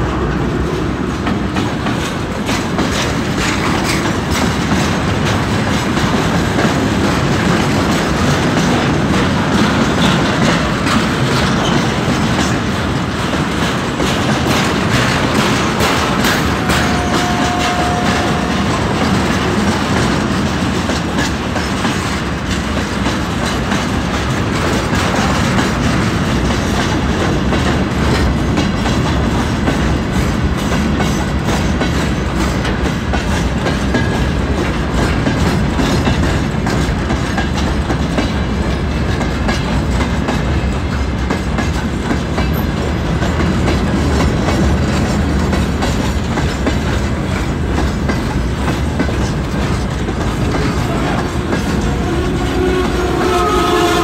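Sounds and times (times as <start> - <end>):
freight train clattering over rail joints: 0.0 - 54.0
train wheel rumble: 0.0 - 54.0.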